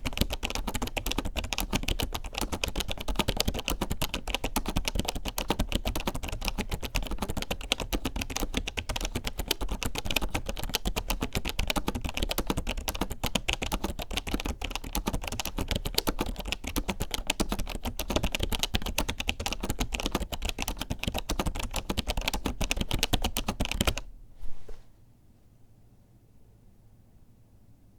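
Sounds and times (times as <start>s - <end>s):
rapid keyboard typing: 0.0s - 24.1s.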